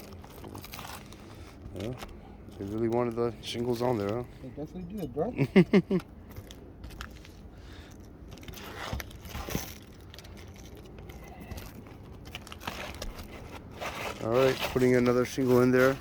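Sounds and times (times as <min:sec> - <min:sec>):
roof shingles scraping and crunching: 0:00.0 - 0:04.3, 0:07.0 - 0:16.0.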